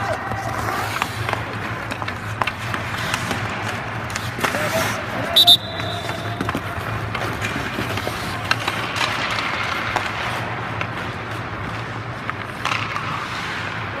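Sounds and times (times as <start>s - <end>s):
hockey sticks and puck clicking: 0.0s - 14.0s
skates scraping on ice: 0.0s - 14.0s.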